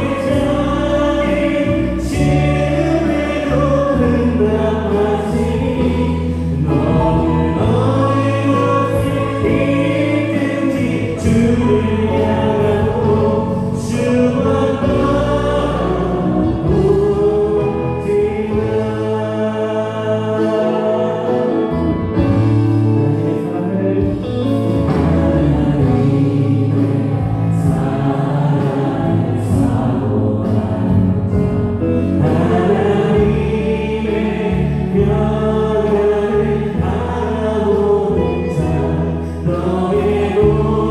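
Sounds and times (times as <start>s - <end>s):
voices singing together: 0.0s - 24.0s, 24.6s - 40.9s
electric bass: 0.0s - 40.9s
keyboard: 0.0s - 40.9s.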